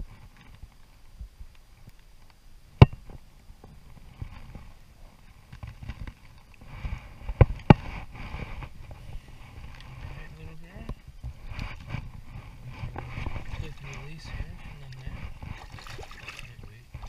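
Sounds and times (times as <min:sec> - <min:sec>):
low rumbling and rustling: 0:00.0 - 0:17.0.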